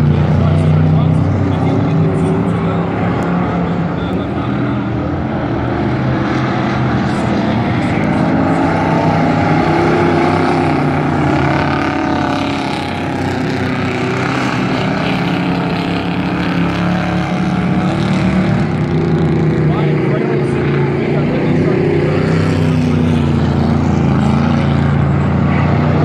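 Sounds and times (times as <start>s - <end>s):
race truck engines running hard: 0.0s - 26.0s.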